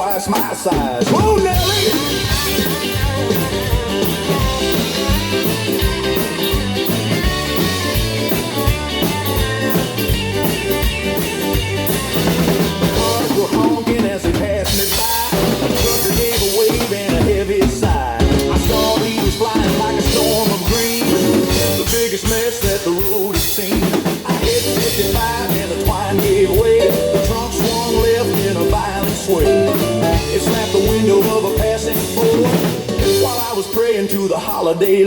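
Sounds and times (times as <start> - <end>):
drum kit beat with rimshots: 0.0 - 35.0
electric guitar: 0.8 - 34.0.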